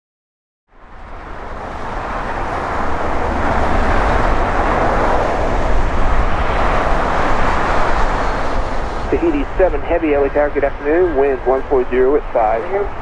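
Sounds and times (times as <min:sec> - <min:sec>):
jet airliner engines rushing: 0:00.8 - 0:13.0.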